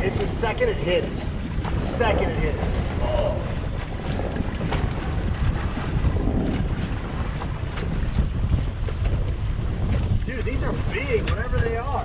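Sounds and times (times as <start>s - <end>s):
sea waves washing: 0.0s - 12.0s
wind rumbling on microphone: 0.0s - 12.0s.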